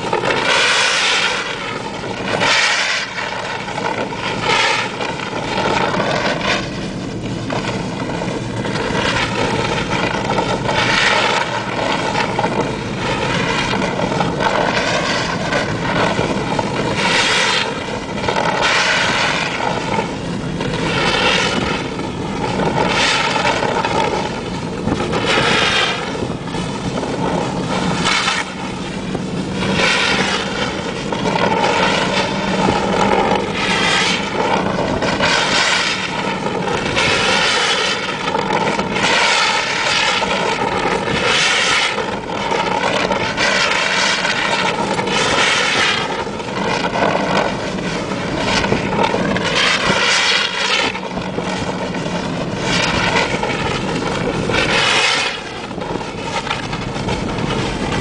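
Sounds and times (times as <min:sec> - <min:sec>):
pickup engine running: 0:00.0 - 0:58.0
rushing hiss: 0:00.0 - 0:58.0.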